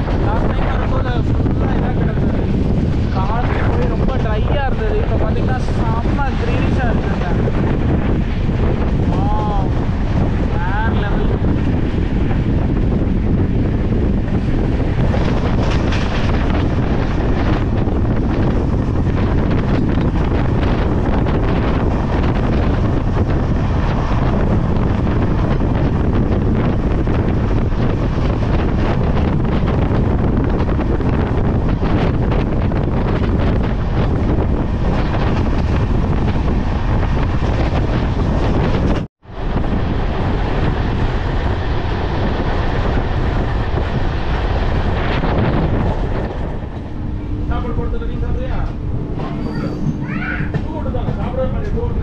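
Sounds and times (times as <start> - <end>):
train rumbling on track: 0.0 - 52.0
wind buffeting microphone: 0.0 - 52.0.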